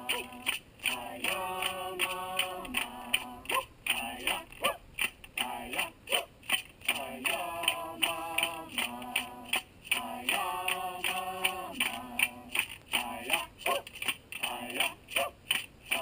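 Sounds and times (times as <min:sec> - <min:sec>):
person singing wordless chant: 0:00.0 - 0:04.6, 0:05.4 - 0:06.0, 0:06.9 - 0:13.8, 0:14.4 - 0:15.3
sharp percussive clicks: 0:00.1 - 0:16.0.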